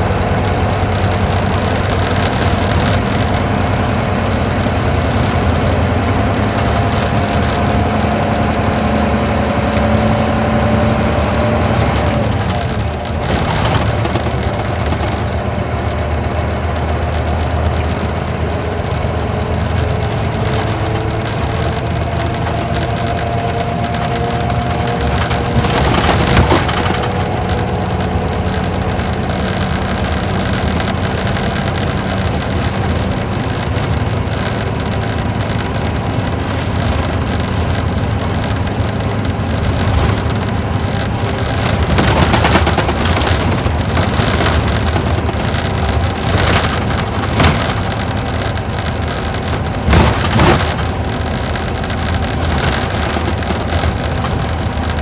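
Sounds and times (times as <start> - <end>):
diesel coach engine running: 0.0 - 55.0
knocks and rattles: 0.0 - 55.0
road noise: 0.0 - 55.0.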